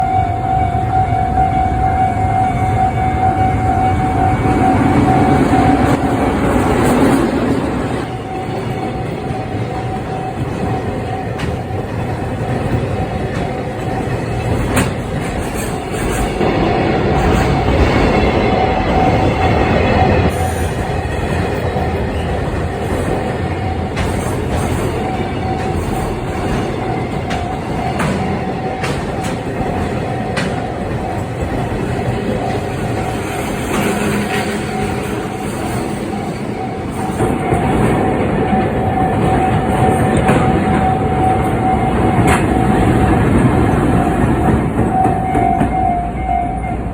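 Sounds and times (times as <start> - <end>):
crossing signal pulsed tone: 0.0 - 14.6, 16.4 - 46.9
train clanking: 0.0 - 46.9
train wheels rumbling on rail: 0.0 - 46.9.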